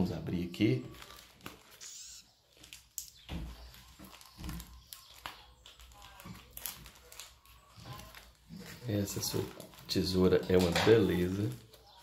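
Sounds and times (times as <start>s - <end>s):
plastic crinkling: 0.8s - 12.0s.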